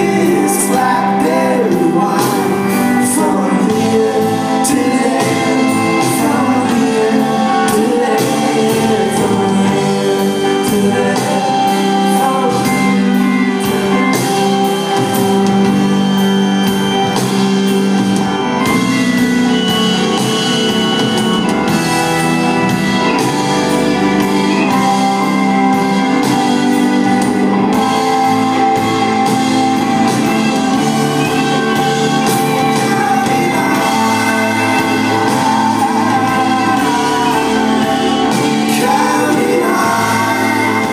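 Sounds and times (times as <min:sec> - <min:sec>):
person singing: 0:00.0 - 0:16.9, 0:22.2 - 0:40.9
rock band playing live: 0:00.0 - 0:40.9.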